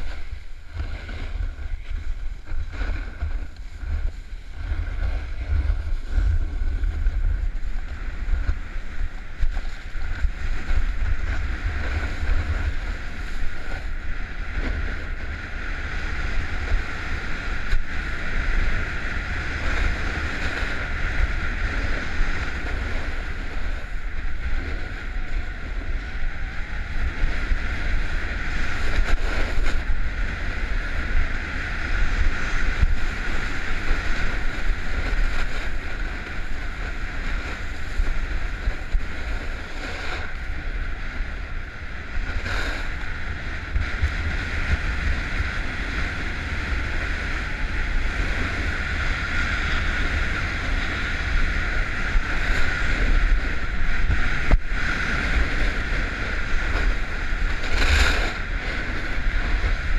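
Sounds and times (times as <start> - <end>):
low rumble: 0.0 - 59.9
skis hissing over packed snow: 0.0 - 59.9
wind on microphone: 0.0 - 59.9.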